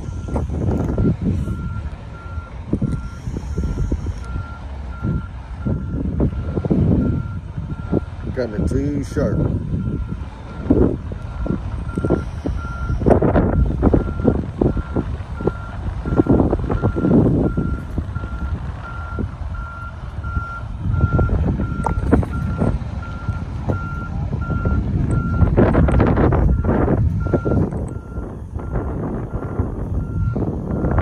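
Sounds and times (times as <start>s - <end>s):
truck backup alarm beeping: 0.0s - 31.0s.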